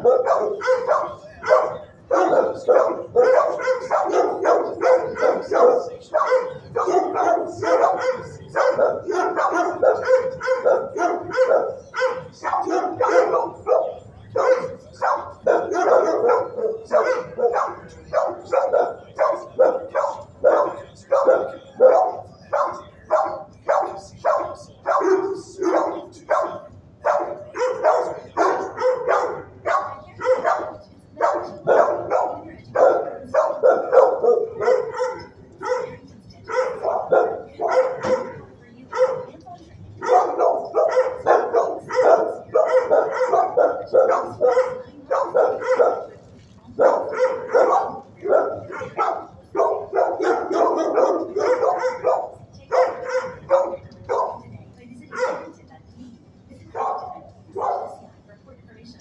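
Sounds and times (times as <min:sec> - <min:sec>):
dogs barking: 0:00.0 - 0:58.3.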